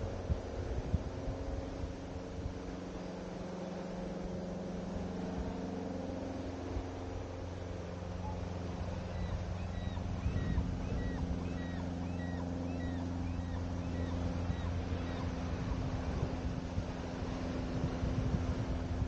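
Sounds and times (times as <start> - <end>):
low motor drone: 0.0 - 19.0.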